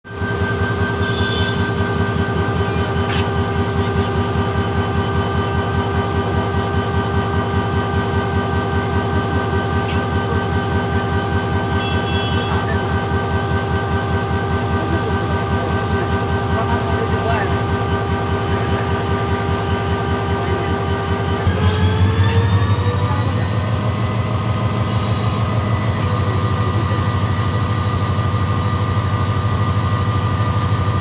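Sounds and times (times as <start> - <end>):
diesel locomotive engine running: 0.0 - 31.0.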